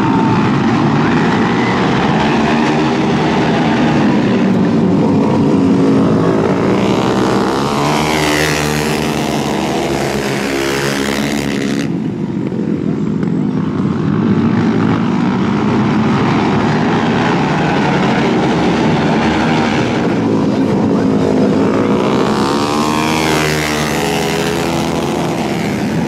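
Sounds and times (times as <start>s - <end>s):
motorcycle engines passing: 0.0s - 26.0s.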